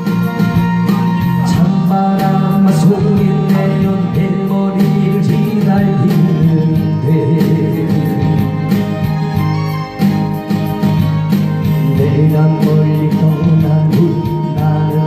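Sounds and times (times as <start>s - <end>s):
man singing into microphone: 0.0s - 9.2s, 11.6s - 15.0s
guitar accompaniment: 0.0s - 15.0s.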